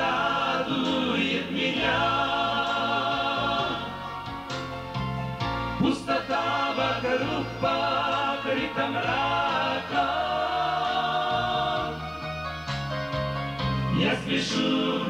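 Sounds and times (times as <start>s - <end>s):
choir singing a hymn: 0.0s - 4.6s, 5.6s - 12.4s, 13.9s - 15.0s.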